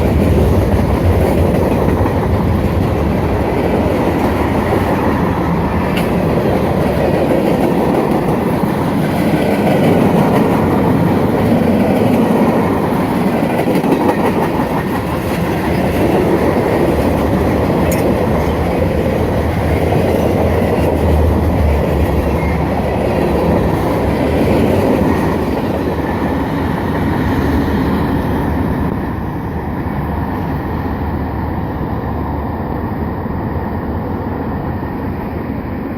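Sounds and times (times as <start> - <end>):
clickety-clack over rail joints: 0.0 - 29.1
freight train wheels rumbling: 0.0 - 35.9.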